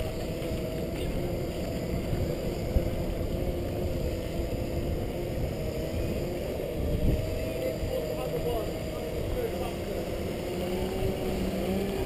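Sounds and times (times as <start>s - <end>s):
low rumble of wheels: 0.0s - 12.0s.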